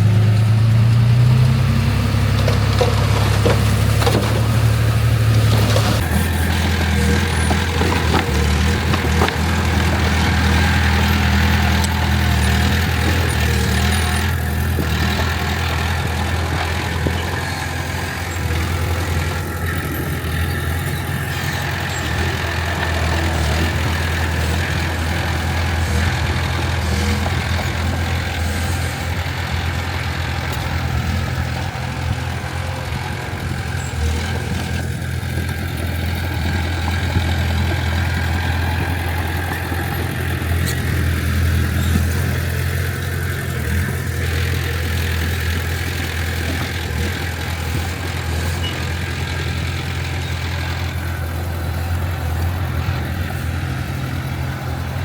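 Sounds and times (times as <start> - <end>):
diesel machinery engine drone: 0.0 - 55.0.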